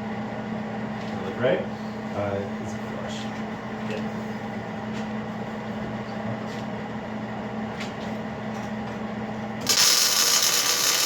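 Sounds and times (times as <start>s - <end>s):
shop equipment humming: 0.0s - 11.0s.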